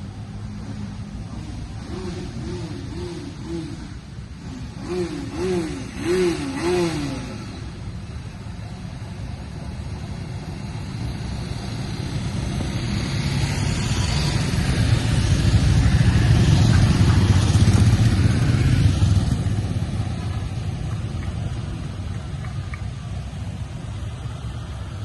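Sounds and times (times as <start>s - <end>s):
motorcycle engines passing: 0.0s - 25.0s.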